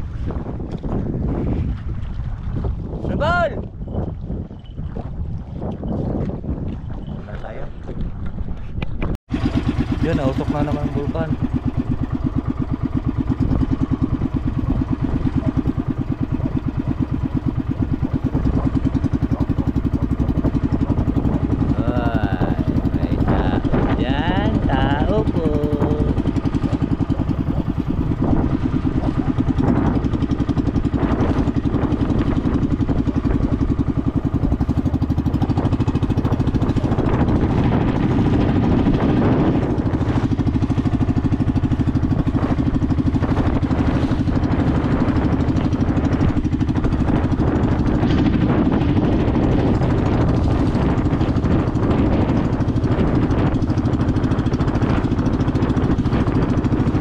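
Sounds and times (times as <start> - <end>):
small petrol engine running: 9.3 - 57.0.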